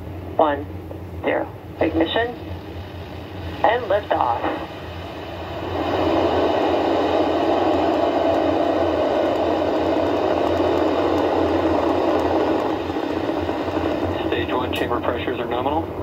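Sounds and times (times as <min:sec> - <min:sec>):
rocket engines roaring: 0:01.2 - 0:16.0.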